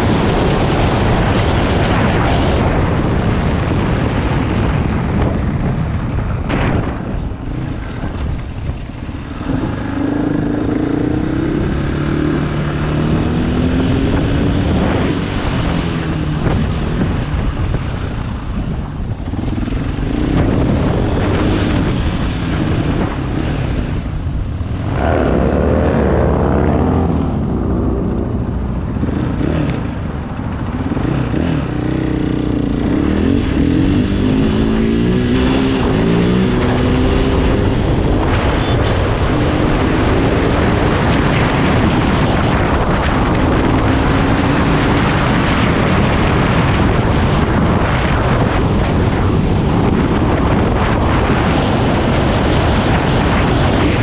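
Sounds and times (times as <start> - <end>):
motorcycle engine running: 0.0 - 54.0
steady rush of noise: 0.0 - 54.0.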